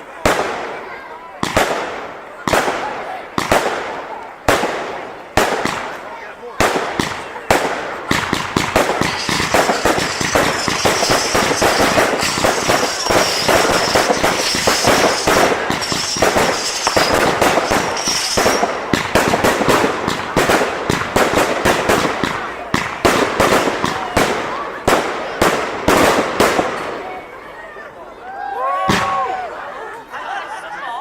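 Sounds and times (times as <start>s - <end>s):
fireworks bangs and crackles: 0.0s - 27.4s, 28.8s - 29.4s.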